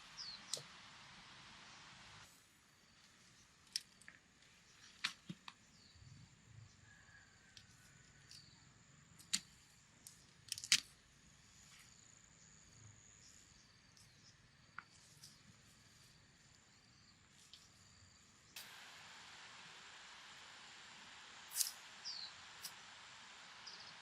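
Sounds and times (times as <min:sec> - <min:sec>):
faint insect chirring: 0:00.0 - 0:24.0.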